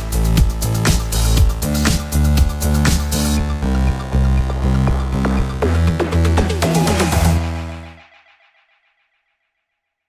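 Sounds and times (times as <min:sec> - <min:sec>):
electronic music with steady bass: 0:00.0 - 0:09.2.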